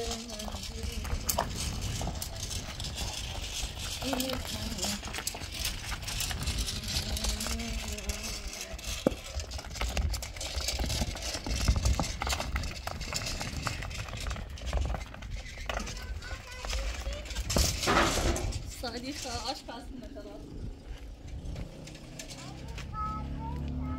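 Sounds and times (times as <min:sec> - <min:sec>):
grit and pebbles crackling: 0:00.0 - 0:23.9
stone roller grinding on ground: 0:00.0 - 0:23.9.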